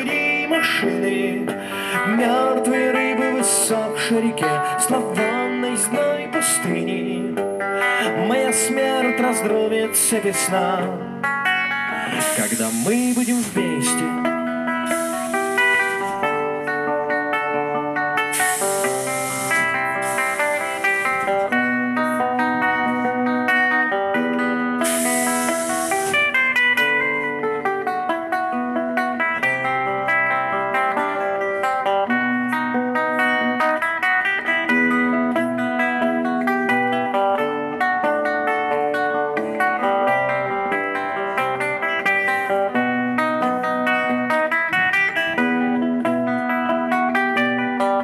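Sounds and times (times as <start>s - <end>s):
electric guitar through amplifier: 0.0s - 48.0s.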